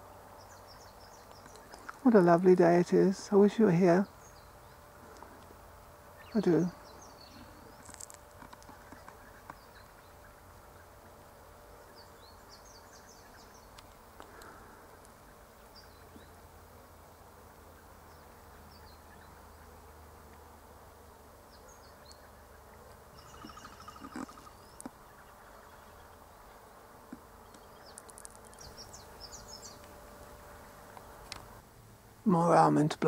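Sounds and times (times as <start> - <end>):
faint buzzing of bees: 0.0 - 33.0.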